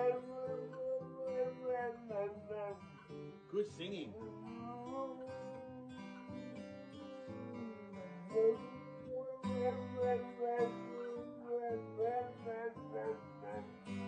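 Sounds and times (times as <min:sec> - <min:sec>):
dog howling: 0:00.0 - 0:02.9, 0:04.1 - 0:14.0
acoustic guitar: 0:00.0 - 0:14.0.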